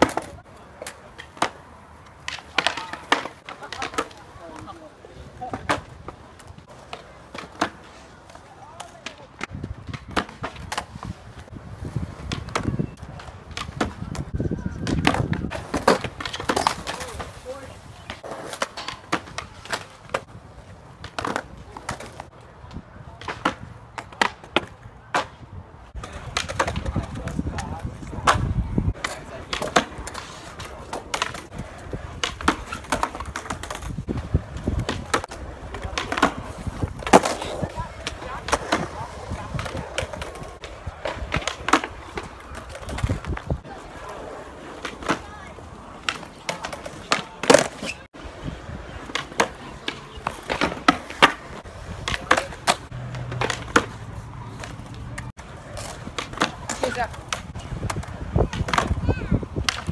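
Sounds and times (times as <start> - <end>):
skateboard clacking on concrete: 0.0 - 59.9
skateboard wheels rolling on concrete: 0.0 - 59.9.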